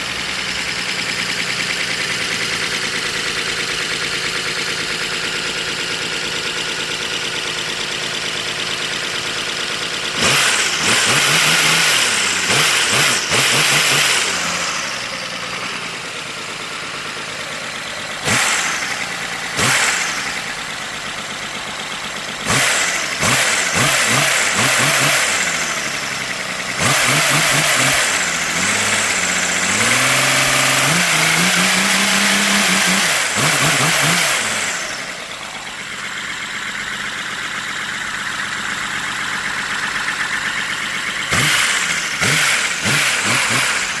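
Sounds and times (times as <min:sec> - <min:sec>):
air-powered engine chuffing: 0:00.0 - 0:44.0.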